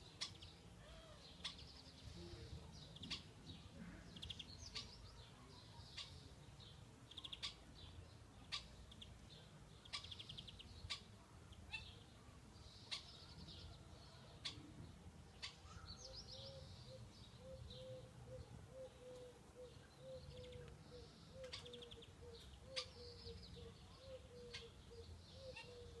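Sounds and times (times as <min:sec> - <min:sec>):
songbirds trilling: 0:00.0 - 0:26.0.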